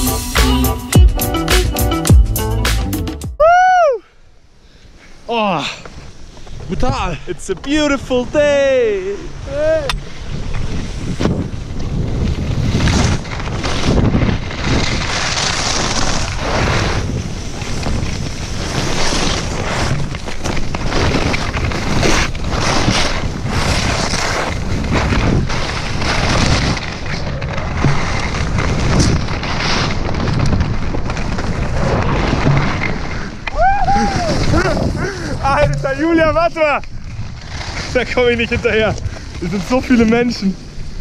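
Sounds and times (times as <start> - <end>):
skis carving through snow: 5.9 - 41.0
wind rushing over microphone: 7.8 - 41.0.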